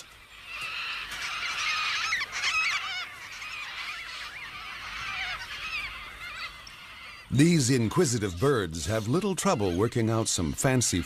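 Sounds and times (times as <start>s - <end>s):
cockatoos calling harshly: 0.0s - 11.0s.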